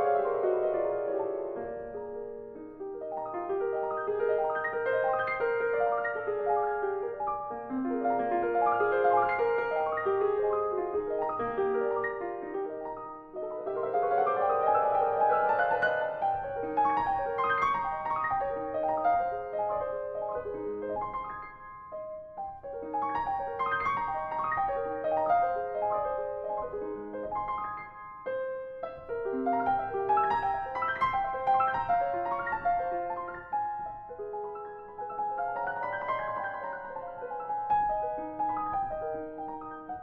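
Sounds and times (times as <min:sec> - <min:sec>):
grand piano classical passage: 0:00.0 - 0:40.0.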